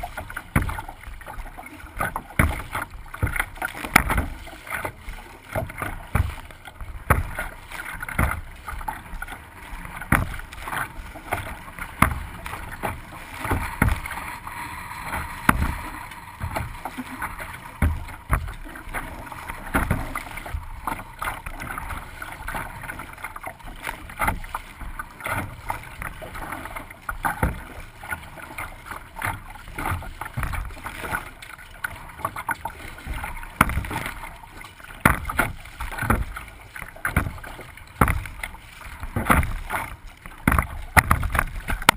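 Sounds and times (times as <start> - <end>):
water rushing: 0.0 - 41.9
waves slapping against kayak hull: 0.0 - 41.9.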